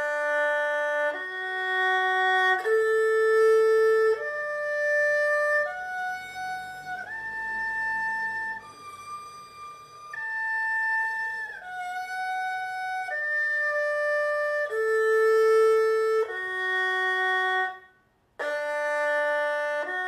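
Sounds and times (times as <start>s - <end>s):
erhu bowed notes: 0.0s - 20.0s.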